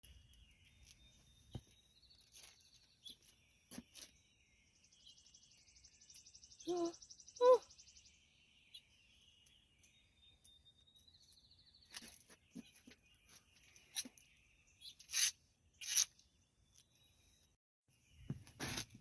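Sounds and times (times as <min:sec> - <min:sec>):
birds singing with high trills: 0:00.0 - 0:19.0.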